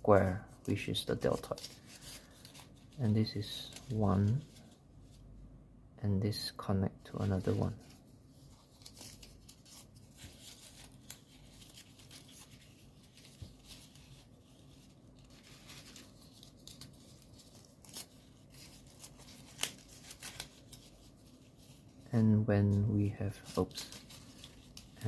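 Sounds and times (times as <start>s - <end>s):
paper rustling and crinkling: 0.0s - 5.3s, 7.0s - 25.0s.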